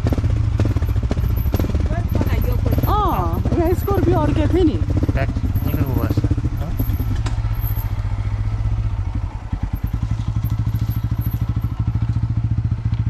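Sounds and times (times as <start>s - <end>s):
motorcycle engine droning: 0.0s - 13.0s.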